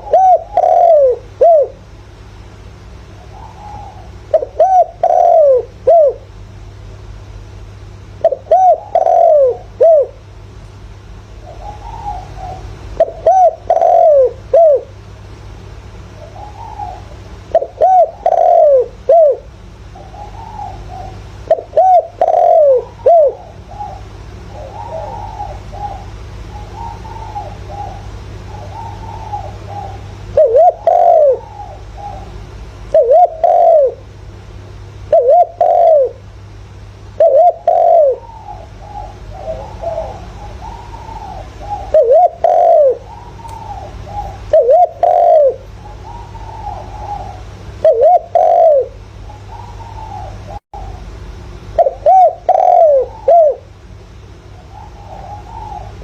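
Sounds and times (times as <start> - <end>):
dove cooing: 0.0 - 2.0, 3.0 - 6.3, 8.2 - 10.3, 11.1 - 15.0, 16.0 - 34.2, 34.9 - 56.0.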